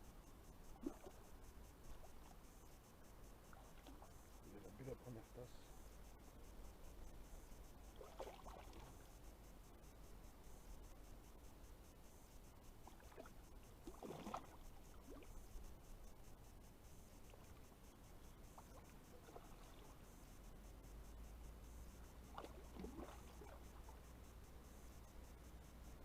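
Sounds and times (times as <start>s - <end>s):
faint water splashing: 0.6s - 10.1s, 12.7s - 26.0s.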